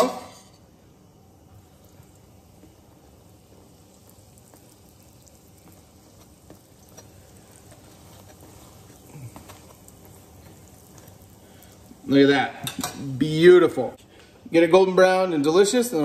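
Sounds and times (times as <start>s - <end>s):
dough sizzling in hot fat: 0.0s - 16.0s.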